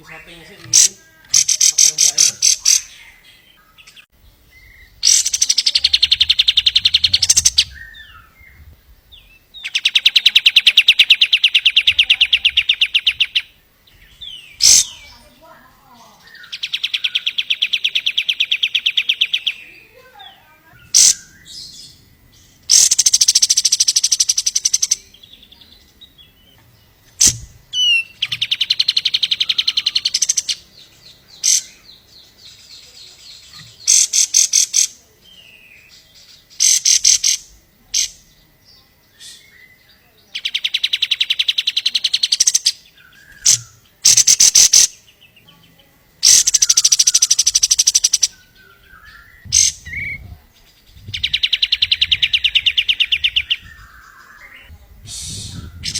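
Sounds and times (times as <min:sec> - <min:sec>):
sharp bird chirps: 0:00.0 - 0:15.3, 0:16.2 - 0:45.5, 0:46.2 - 0:55.9
songbird trilling: 0:00.0 - 0:55.9.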